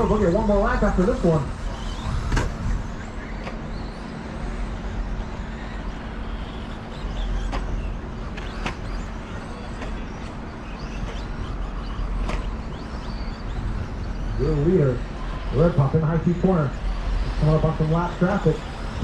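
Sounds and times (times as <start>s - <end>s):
rc truck motors whining: 0.0s - 19.0s.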